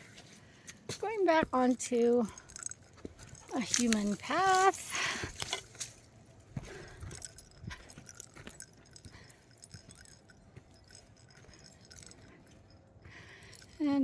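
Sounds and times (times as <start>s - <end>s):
footsteps on path: 0.0s - 13.9s
metallic jingle: 1.5s - 14.0s.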